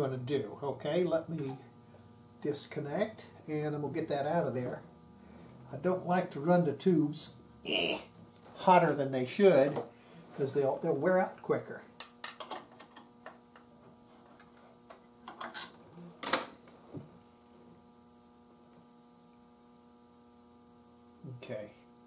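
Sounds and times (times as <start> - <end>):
mains hum: 0.0 - 22.0.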